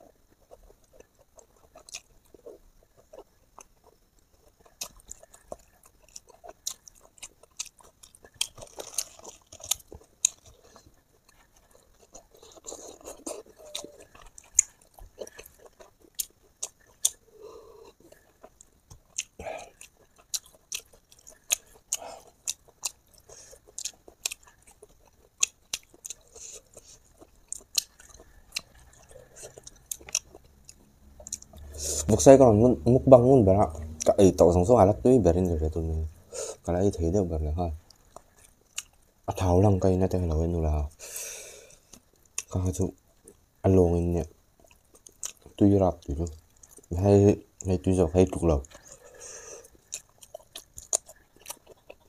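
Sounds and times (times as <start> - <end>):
person chewing crunchy food: 0.0 - 32.4, 37.8 - 39.4, 40.3 - 43.6, 44.3 - 52.0.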